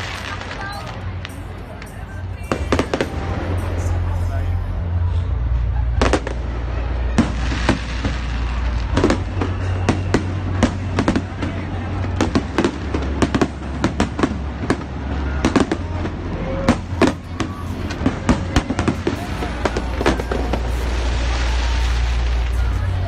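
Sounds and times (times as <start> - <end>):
fireworks bangs and crackles: 0.0 - 23.0
low rumble: 2.2 - 12.2, 14.4 - 23.0.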